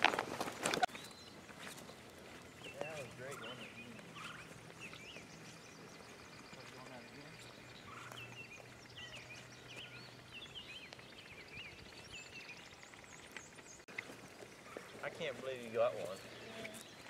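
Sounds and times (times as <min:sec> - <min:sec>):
songbirds chirping and whistling: 0:00.4 - 0:17.0.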